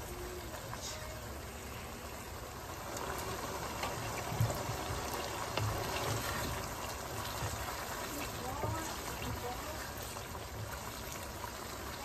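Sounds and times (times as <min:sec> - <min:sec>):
meat sizzling in a frying pan: 0:01.2 - 0:12.0.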